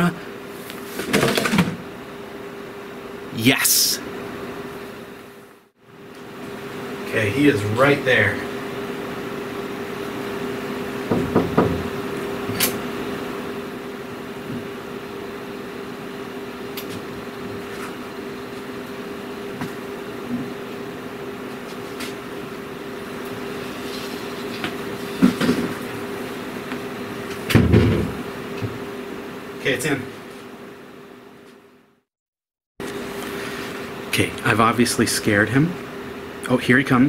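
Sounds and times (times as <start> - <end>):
air-conditioning hum: 0.0 - 32.0, 32.8 - 37.0.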